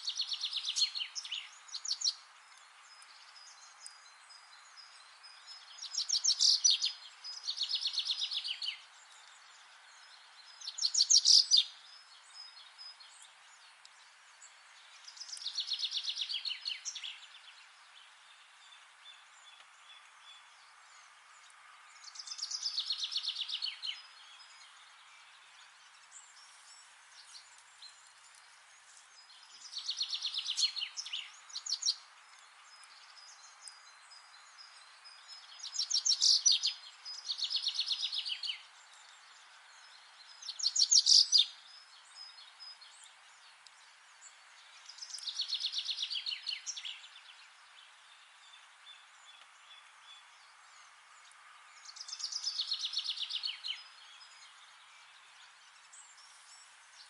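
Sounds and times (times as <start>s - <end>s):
faint outdoor hiss: 0.0s - 57.0s.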